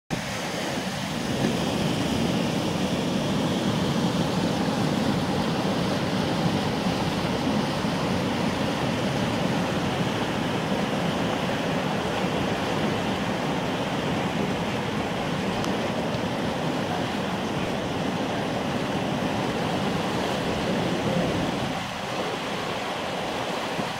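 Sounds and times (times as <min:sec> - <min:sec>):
rapids rushing: 0:00.1 - 0:23.9.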